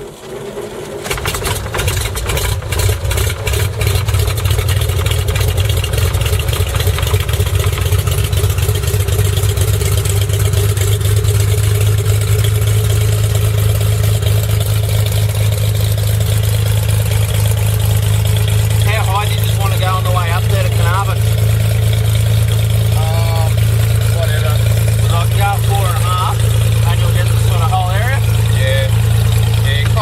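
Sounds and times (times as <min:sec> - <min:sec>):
aircraft engine droning: 0:00.0 - 0:30.0.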